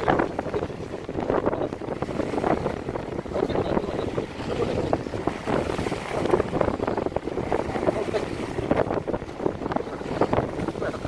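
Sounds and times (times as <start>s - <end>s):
gusty wind buffeting microphone: 0.0s - 11.0s
sea water churning between hulls: 0.0s - 11.0s.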